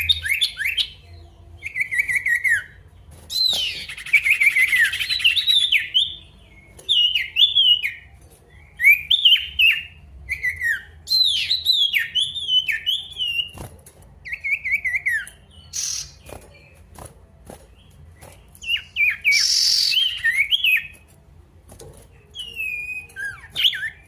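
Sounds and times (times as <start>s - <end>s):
bird singing sharp notes: 0.0s - 16.8s, 17.8s - 21.0s.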